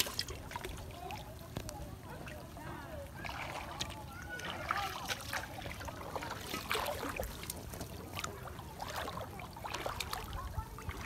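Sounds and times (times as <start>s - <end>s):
shallow water sloshing and splashing: 0.0s - 11.0s.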